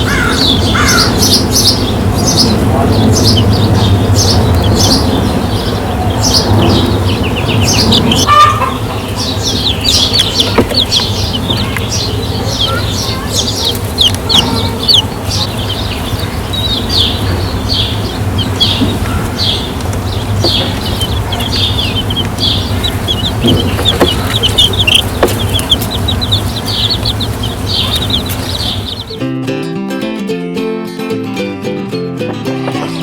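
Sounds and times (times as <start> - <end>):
chicks peeping: 0.0 - 29.2, 32.6 - 33.0
steady low hum: 0.0 - 29.2.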